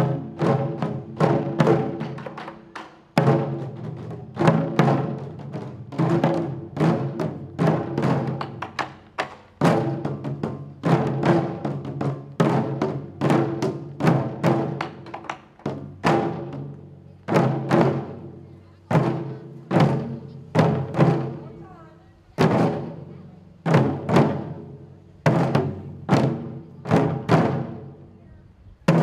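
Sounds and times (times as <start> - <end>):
taiko drums: 0.0 - 29.0.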